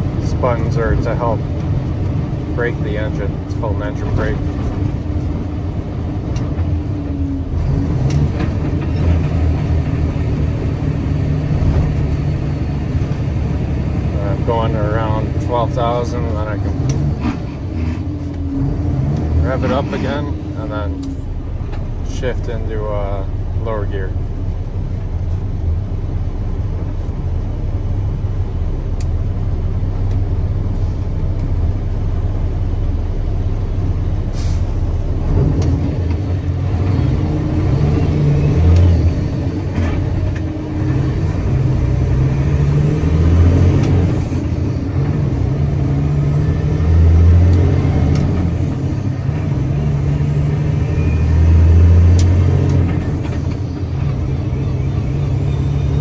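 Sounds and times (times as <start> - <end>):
truck diesel engine revving: 0.0 - 56.0.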